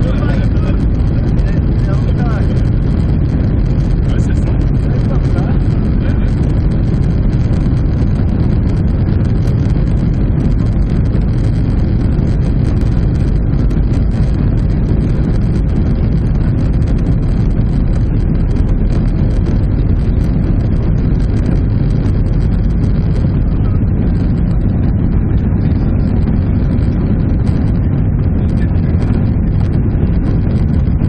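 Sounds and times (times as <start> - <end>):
airplane cabin engine rumble: 0.0 - 31.0
rushing air: 0.0 - 31.0.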